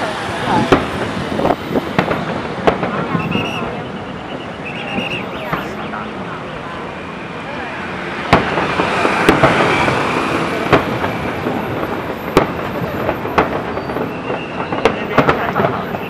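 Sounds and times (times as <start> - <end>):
fireworks bangs: 0.0 - 16.0
fireworks crackle: 0.0 - 16.0.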